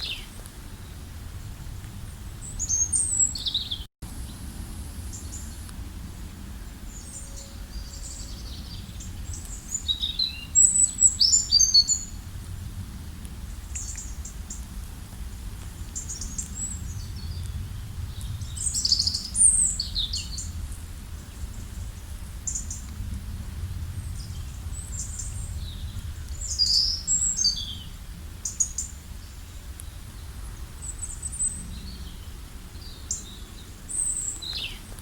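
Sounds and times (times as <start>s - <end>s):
songbirds chirping: 0.0s - 35.0s
steady low rumble: 4.0s - 35.0s.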